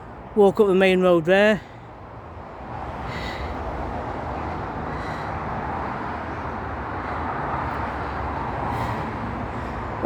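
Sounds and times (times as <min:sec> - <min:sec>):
tyres hissing on road: 0:01.5 - 0:10.0.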